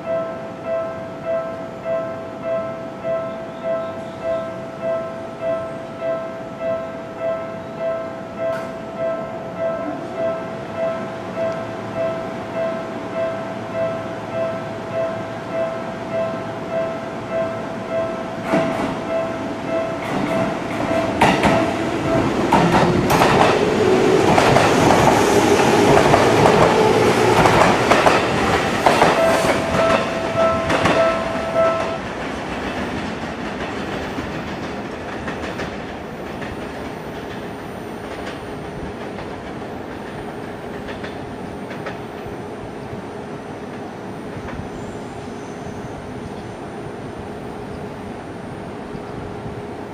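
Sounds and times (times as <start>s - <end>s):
electric train wheels clacking: 0.0s - 44.8s
distant train running: 0.0s - 49.9s
train running gear whine: 0.0s - 49.9s.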